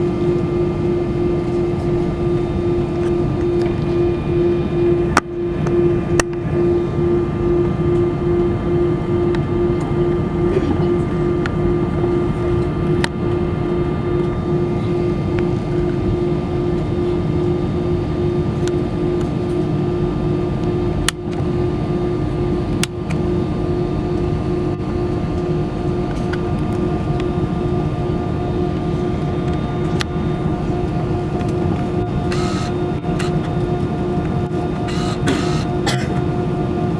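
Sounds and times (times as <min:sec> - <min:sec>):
aircraft cabin engine drone: 0:00.0 - 0:36.9.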